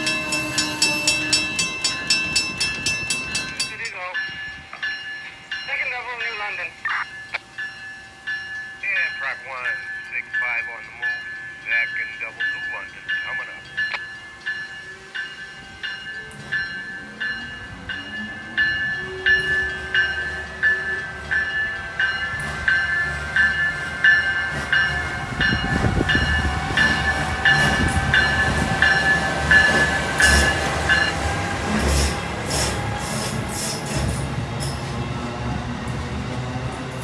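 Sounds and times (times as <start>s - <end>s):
train bell dinging: 0.0s - 32.2s
passing train rumble: 0.0s - 37.0s
steady whine of train cars: 0.0s - 37.0s.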